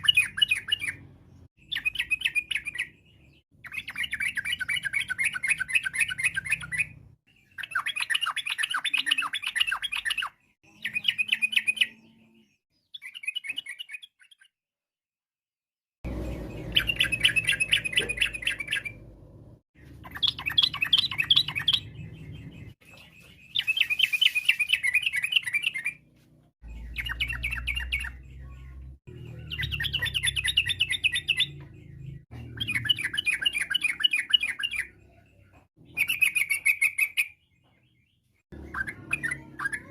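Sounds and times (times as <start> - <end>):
bulbul chattering song: 0.0 - 14.6, 16.1 - 26.0, 26.6 - 39.9.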